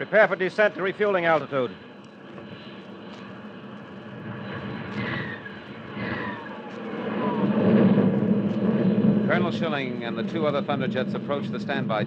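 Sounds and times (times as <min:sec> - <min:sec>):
falling jet whines: 0:00.0 - 0:12.0
jet engines rushing: 0:00.0 - 0:12.0.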